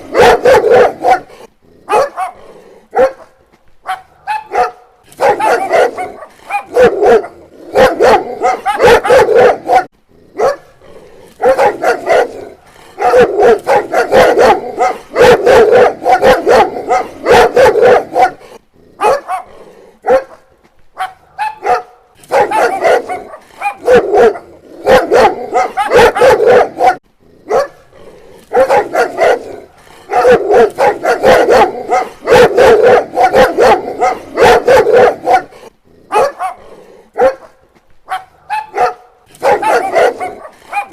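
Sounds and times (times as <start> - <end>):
dog barking: 0.0 - 10.8, 11.4 - 27.9, 28.5 - 40.9.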